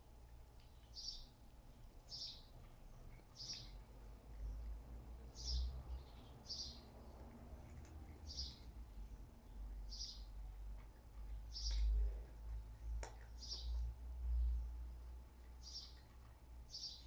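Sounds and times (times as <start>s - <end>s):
small bird chirping: 0.6s - 17.0s.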